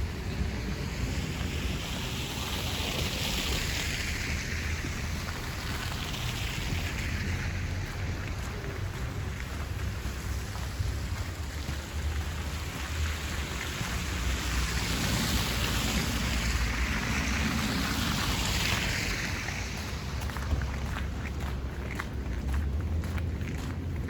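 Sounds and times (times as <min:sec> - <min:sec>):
road traffic rumble and hiss: 0:00.0 - 0:24.0.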